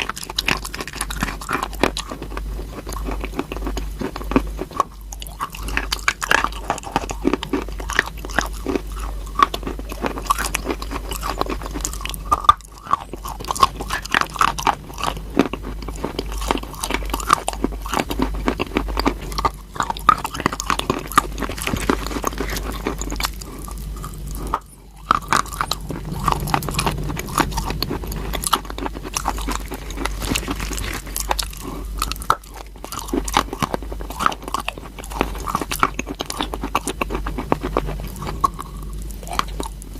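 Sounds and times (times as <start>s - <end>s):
person chewing crunchy chalk: 0.0s - 39.9s.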